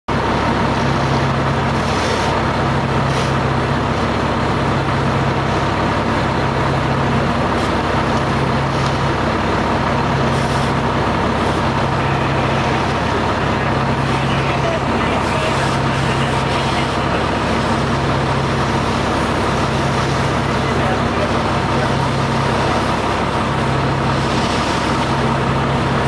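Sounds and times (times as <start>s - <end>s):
diesel engine droning: 0.1s - 26.0s.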